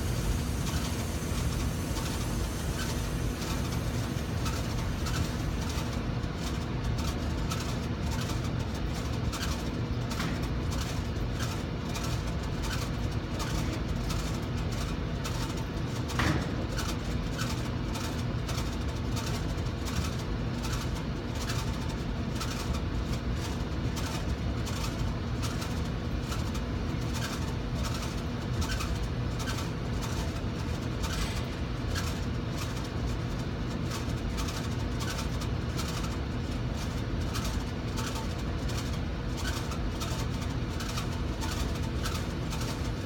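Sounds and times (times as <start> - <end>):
air conditioner blower humming: 0.0 - 43.0.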